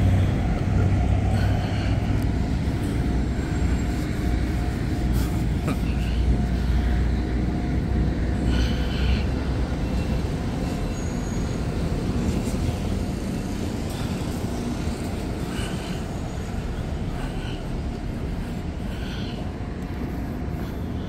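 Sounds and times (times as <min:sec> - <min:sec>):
train rumbling on tracks: 0:00.0 - 0:21.0.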